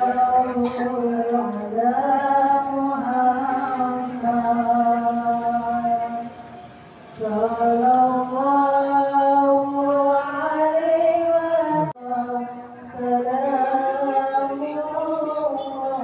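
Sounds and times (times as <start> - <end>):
person chanting: 0.0 - 6.4, 7.1 - 16.0.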